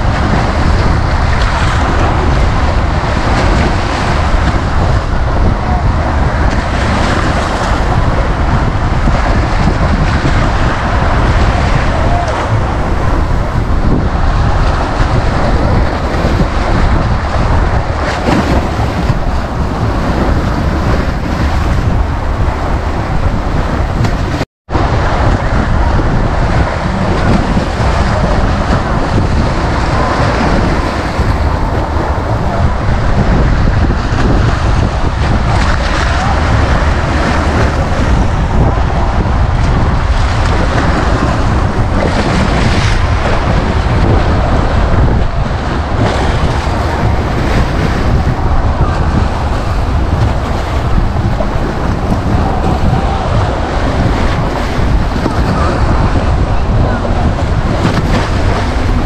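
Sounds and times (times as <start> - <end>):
waves breaking on beach: 0.0 - 59.0
wind rumbling on microphone: 0.0 - 59.0.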